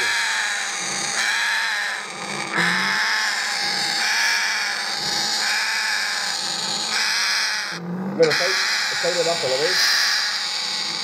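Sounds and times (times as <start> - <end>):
parrots harsh calls: 0.0 - 11.0.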